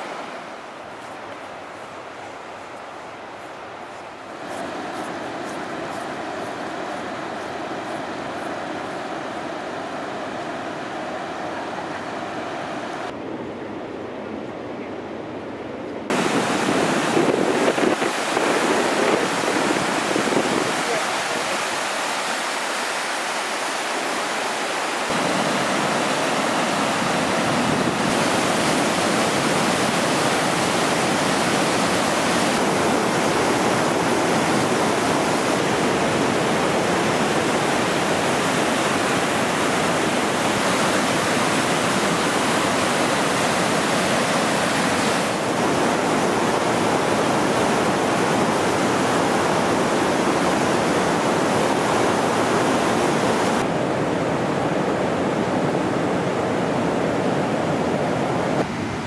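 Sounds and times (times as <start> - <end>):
river rapids rushing over rocks: 0.0 - 13.1, 16.1 - 59.0.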